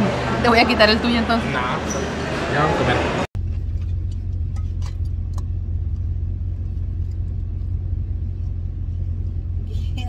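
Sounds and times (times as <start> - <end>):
vehicle driving drone: 0.0 - 10.0.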